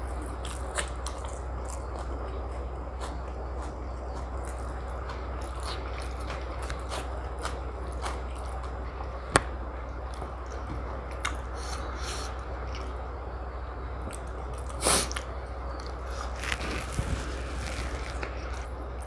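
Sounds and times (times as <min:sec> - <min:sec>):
wet mouth chewing: 0:00.0 - 0:09.5, 0:10.1 - 0:13.1, 0:14.0 - 0:18.8
steady low hum: 0:00.0 - 0:19.0.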